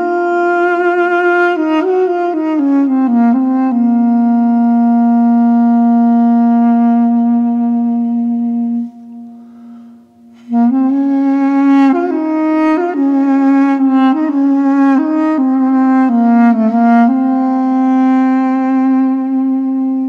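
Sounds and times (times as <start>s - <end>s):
solo wind instrument melody: 0.0s - 20.0s.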